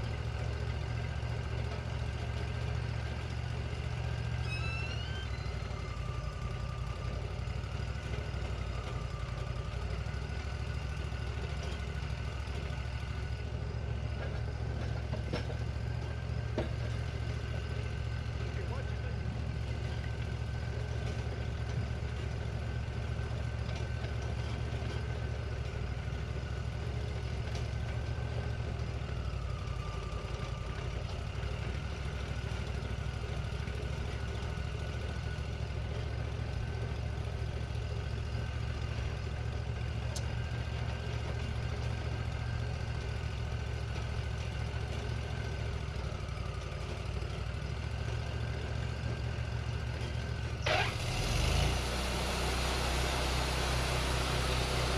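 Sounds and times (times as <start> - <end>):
band sawmill running: 0.0 - 54.9.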